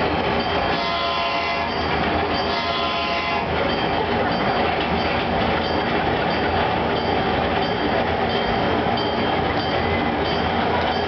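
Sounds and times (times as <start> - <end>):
steam train chugging: 0.0 - 11.0.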